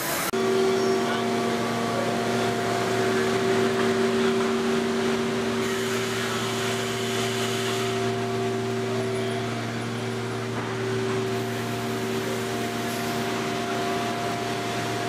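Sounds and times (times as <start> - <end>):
factory machinery droning: 0.0 - 15.0.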